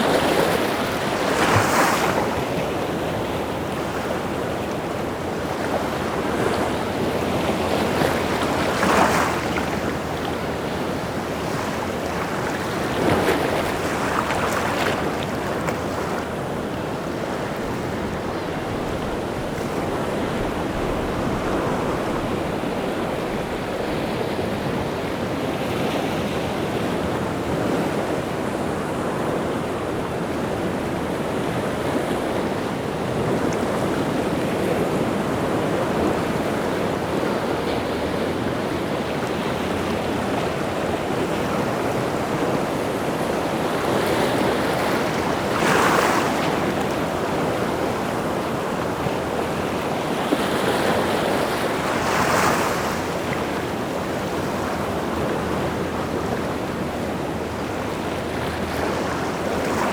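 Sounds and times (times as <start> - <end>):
big waves breaking: 0.0 - 59.9
sea surf breaking on shore: 0.0 - 59.9.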